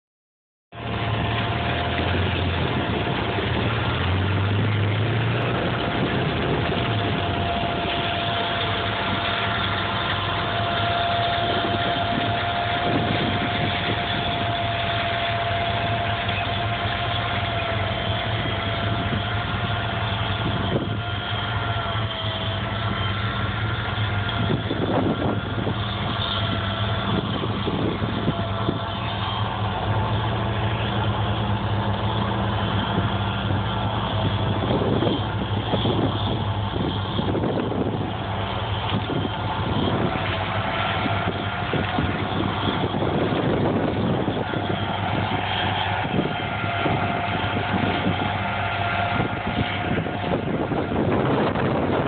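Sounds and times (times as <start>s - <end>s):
steady high whine: 0.7s - 52.0s
tractor diesel engine under load: 0.7s - 52.0s.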